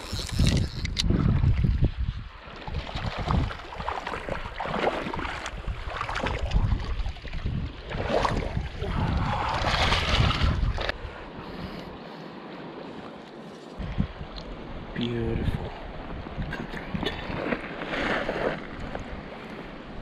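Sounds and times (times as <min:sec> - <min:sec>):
wind buffeting microphone: 0:00.0 - 0:11.8, 0:13.8 - 0:20.0
river water splashing: 0:01.4 - 0:20.0.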